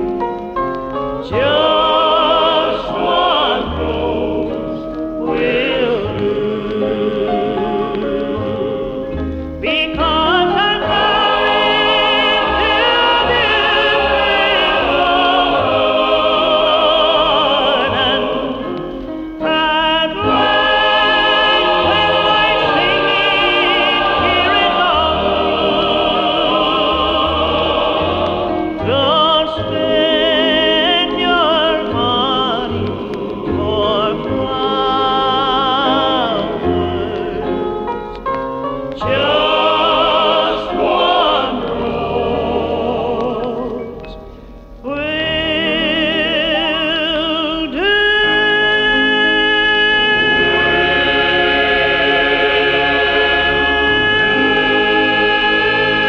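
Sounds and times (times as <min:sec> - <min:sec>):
gospel choir singing: 0:01.0 - 0:56.0
lead singer with heavy vibrato: 0:01.3 - 0:37.8, 0:39.0 - 0:56.0.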